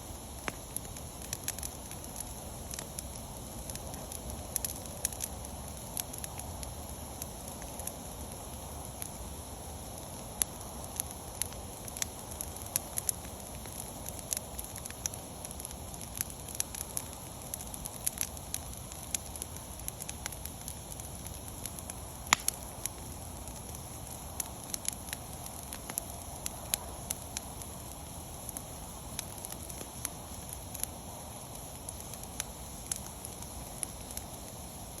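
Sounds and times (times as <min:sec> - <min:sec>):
bonfire crackling and popping: 0:00.0 - 0:35.0
steady hiss: 0:00.0 - 0:35.0.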